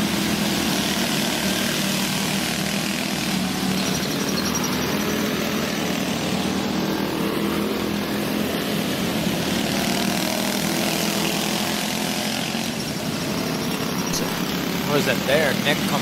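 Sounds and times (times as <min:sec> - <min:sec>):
go-kart engines racing: 0:00.0 - 0:16.0.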